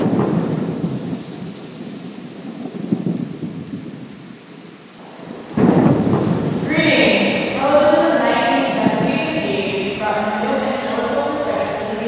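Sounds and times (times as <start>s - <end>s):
rain hissing: 0.0s - 12.0s
rumbling thunder: 0.0s - 12.0s.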